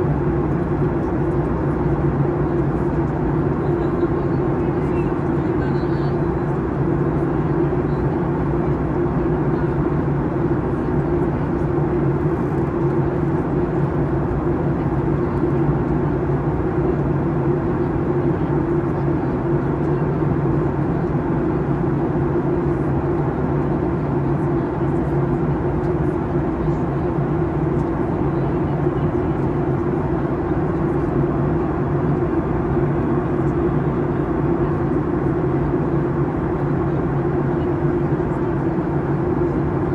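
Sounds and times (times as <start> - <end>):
jet airliner cabin drone: 0.0 - 39.9.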